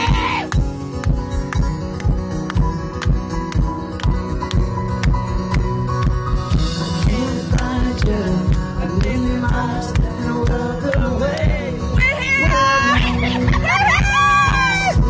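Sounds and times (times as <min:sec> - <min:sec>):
drums steady beat: 0:00.0 - 0:15.0
guitar: 0:00.0 - 0:15.0
live band playing pop-rock: 0:00.0 - 0:15.0.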